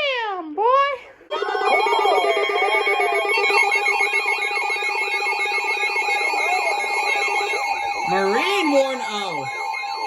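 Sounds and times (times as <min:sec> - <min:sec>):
falling chirps: 0:01.3 - 0:10.0
fast buzzing alarm pulse: 0:01.3 - 0:10.0
steady alarm tones: 0:01.3 - 0:10.0
warbling high tone: 0:01.3 - 0:10.0.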